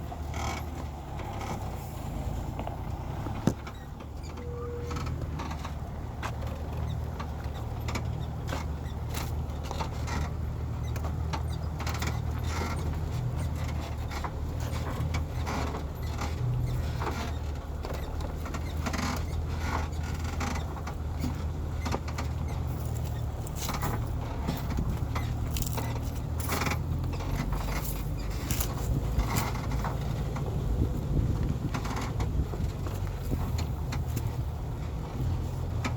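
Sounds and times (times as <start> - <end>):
truck engine droning: 0.0 - 35.9
clicks knocks and creaks: 2.5 - 35.9.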